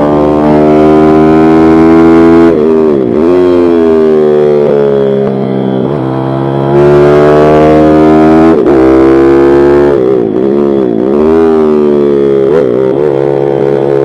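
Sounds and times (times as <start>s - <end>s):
pit bike engine revving: 0.0s - 14.0s.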